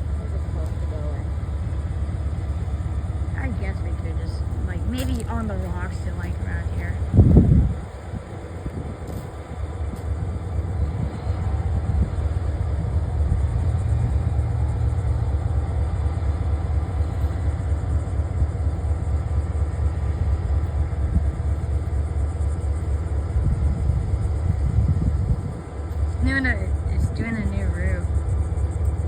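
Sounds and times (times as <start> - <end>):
diesel locomotive rumbling: 0.0 - 29.0.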